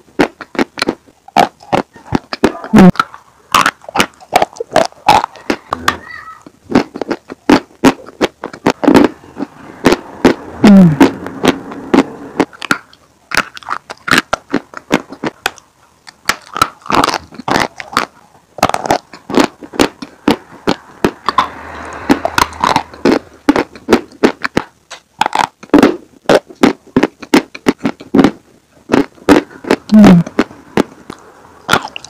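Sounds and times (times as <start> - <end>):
chewing crunchy chalk: 0.0 - 32.0.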